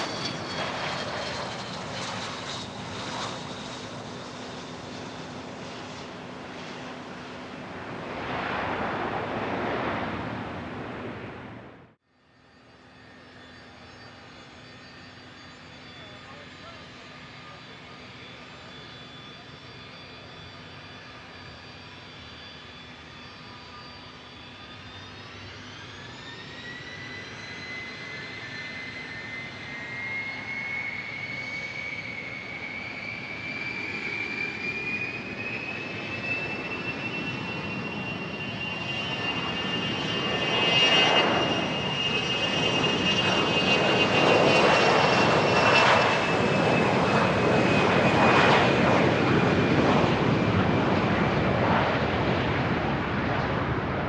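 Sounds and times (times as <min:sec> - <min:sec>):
jet engine roar: 0:00.0 - 0:54.0
jet engine turbine whine: 0:00.0 - 0:54.0.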